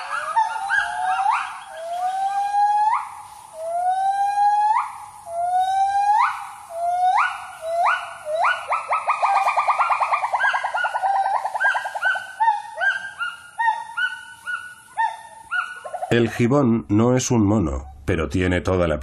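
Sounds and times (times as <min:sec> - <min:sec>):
gibbon whooping calls: 0:00.0 - 0:16.3.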